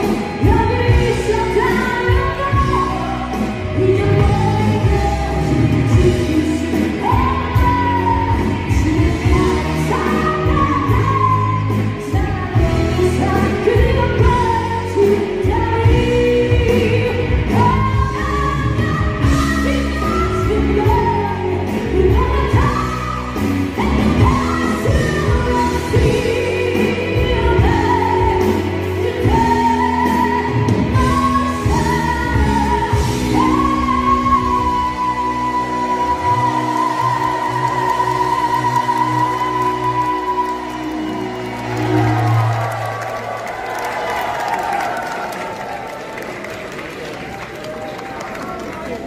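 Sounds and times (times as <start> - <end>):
woman singing into microphone: 0.0 - 42.4
live rock band playing: 0.0 - 43.2.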